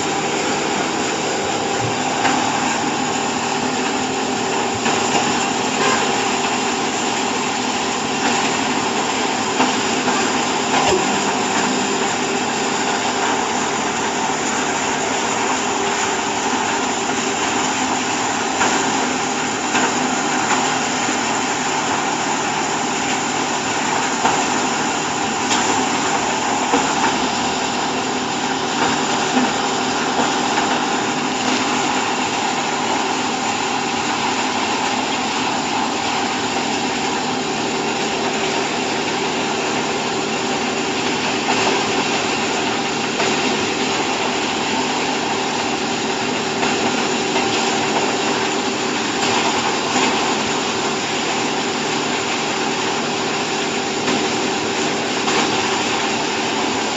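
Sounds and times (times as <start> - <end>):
baler mechanical noise: 0.0 - 56.9.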